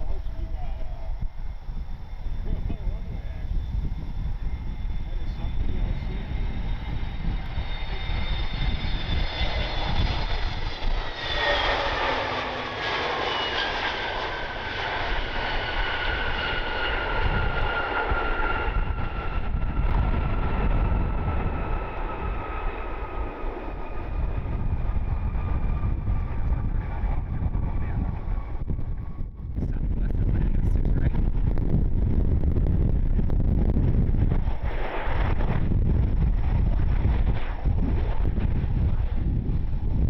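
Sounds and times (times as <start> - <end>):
jet airliner engines whining: 0.0 - 40.0.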